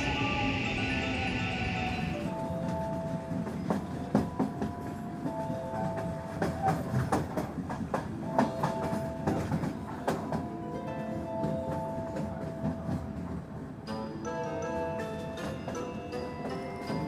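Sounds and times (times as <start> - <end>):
electric train rumbling on rails: 0.0 - 17.0
train wheels clacking over rail joints: 2.2 - 14.0, 15.0 - 17.0.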